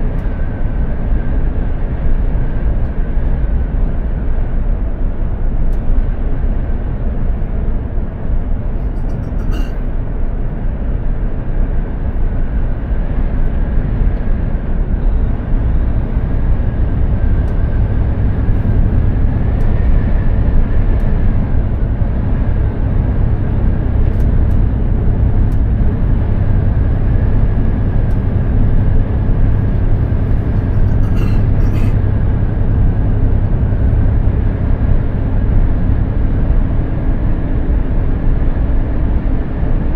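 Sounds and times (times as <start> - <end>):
faint steady whine: 0.0 - 39.9
truck diesel engine driving: 5.9 - 39.9.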